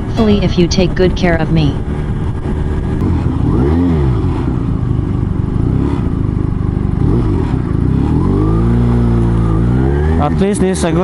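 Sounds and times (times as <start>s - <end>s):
motorcycle engine revving: 1.8s - 11.0s.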